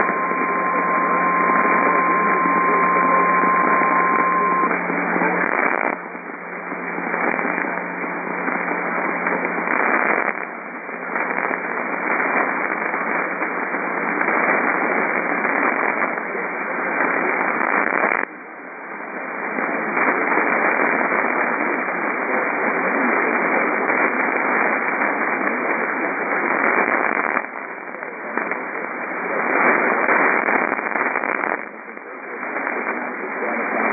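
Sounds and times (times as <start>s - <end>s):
radio static hiss: 0.0s - 33.9s.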